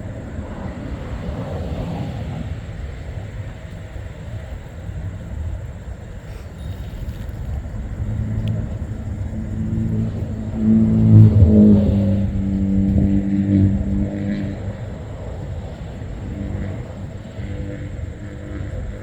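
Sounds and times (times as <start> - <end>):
road traffic rumble: 0.0 - 19.0
vehicle engine hum: 0.0 - 19.0.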